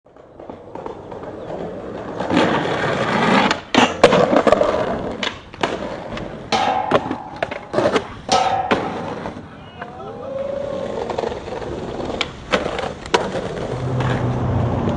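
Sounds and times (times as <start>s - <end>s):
skateboard clacking on ground: 0.1s - 14.9s
skateboard wheels rolling: 0.1s - 14.9s.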